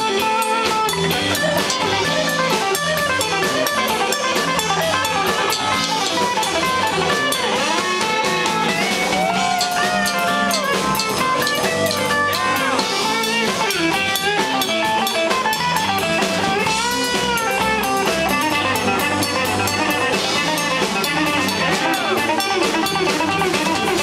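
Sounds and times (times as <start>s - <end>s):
bass and drums: 0.0s - 24.0s
electric guitar solo: 0.0s - 24.0s.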